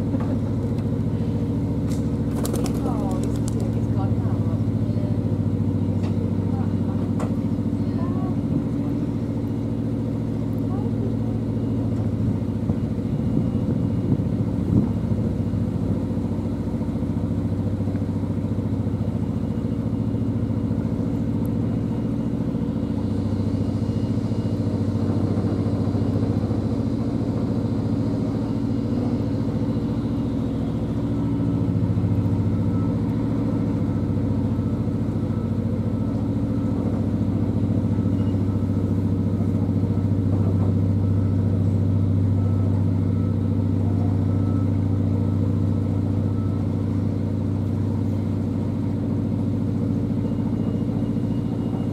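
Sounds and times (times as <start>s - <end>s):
boat engine droning: 0.0s - 51.9s.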